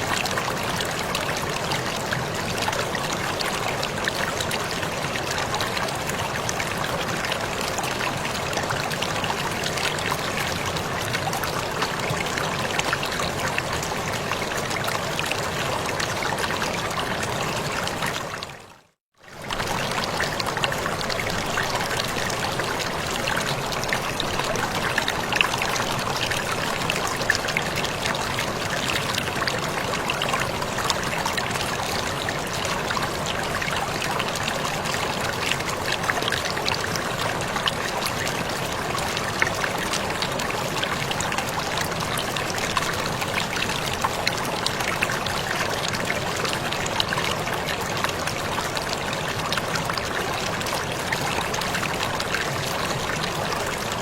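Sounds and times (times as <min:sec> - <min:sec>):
water splashes and drips: 0:00.0 - 0:54.0.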